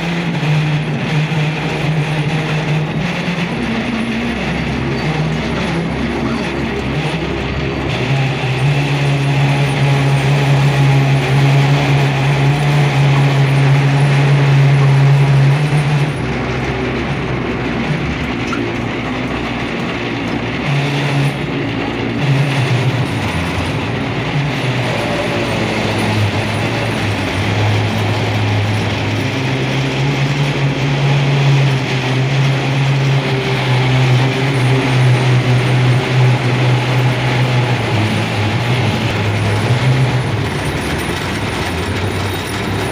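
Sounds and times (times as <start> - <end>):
train hum and rumble: 0.0 - 42.9.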